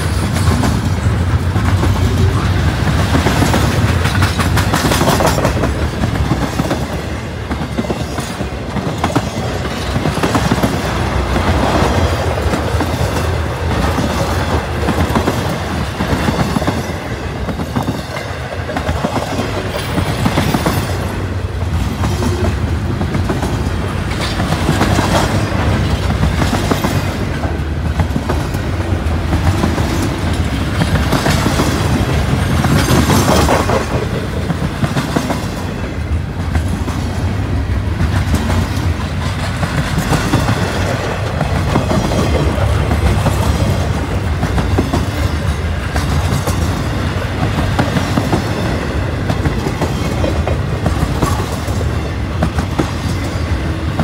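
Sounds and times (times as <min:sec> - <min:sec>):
clickety-clack over rail joints: 0:00.0 - 0:54.0
freight train wheels rumbling: 0:00.0 - 0:54.0.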